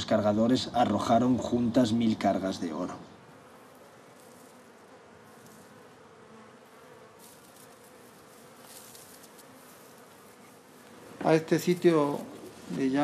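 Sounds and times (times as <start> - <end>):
buzzing of small flies: 0.1 - 13.0.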